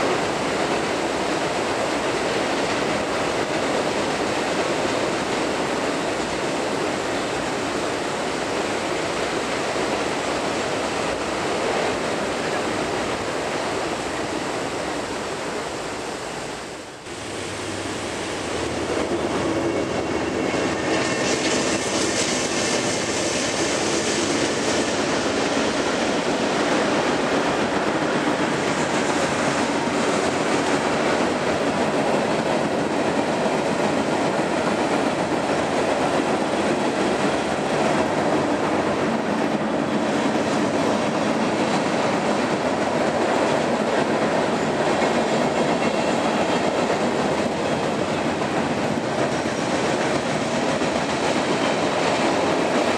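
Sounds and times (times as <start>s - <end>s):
train wheels rolling on rails: 0.0s - 52.9s.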